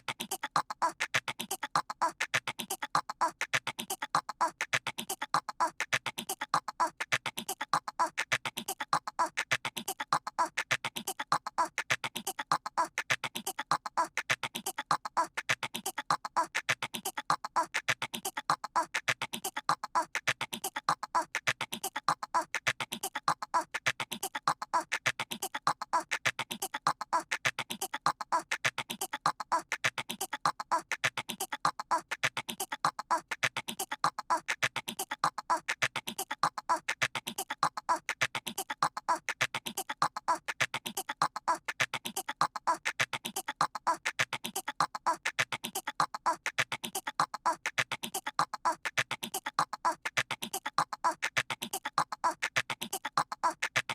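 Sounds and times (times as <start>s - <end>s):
person imitating squirrel chatter: 0.0s - 53.9s.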